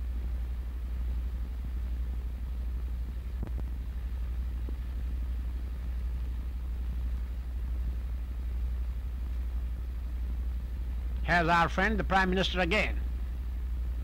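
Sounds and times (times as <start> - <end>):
faint hiss: 0.0 - 14.0
low electrical hum: 0.0 - 14.0.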